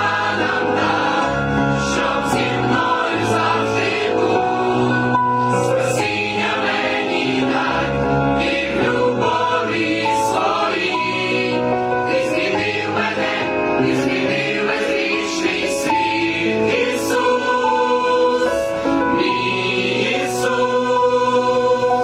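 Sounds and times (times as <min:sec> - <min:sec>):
choir singing a carol: 0:00.0 - 0:22.0.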